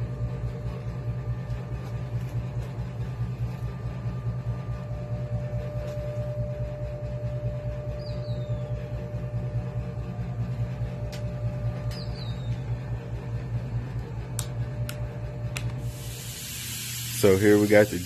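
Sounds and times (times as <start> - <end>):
faint steady whine: 0.0 - 18.0
shop machinery humming: 0.0 - 18.0.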